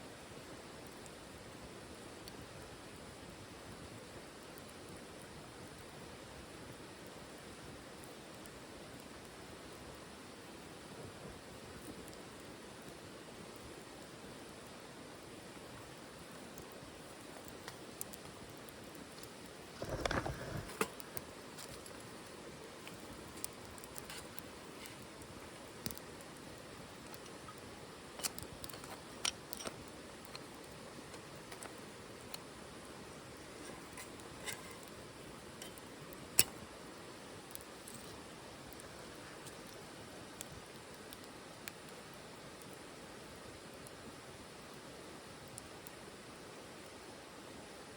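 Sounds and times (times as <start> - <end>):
rustle: 0.0 - 47.9
wood fire crackling: 0.1 - 47.9.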